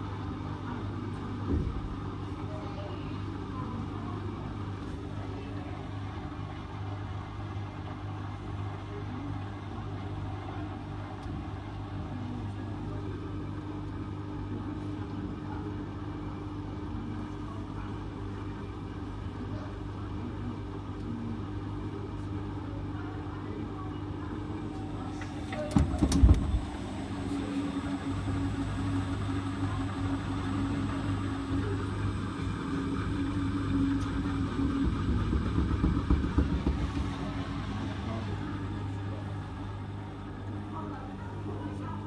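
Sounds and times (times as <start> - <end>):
washing machine spinning: 0.0 - 42.0.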